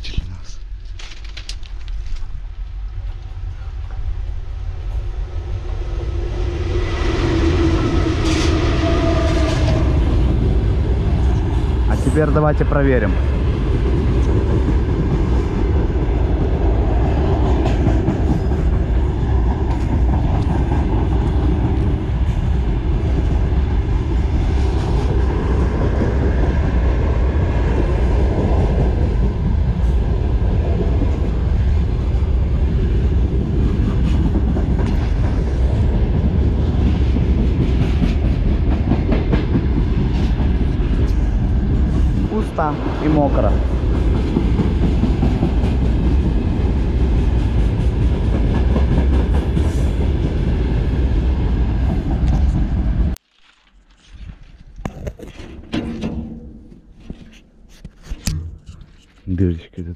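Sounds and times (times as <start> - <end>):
freight train rumbling: 1.7 - 53.2.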